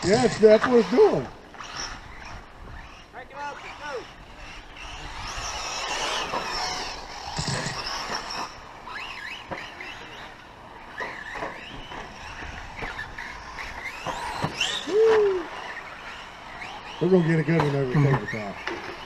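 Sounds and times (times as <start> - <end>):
toy truck motors whining: 0.0 - 19.0.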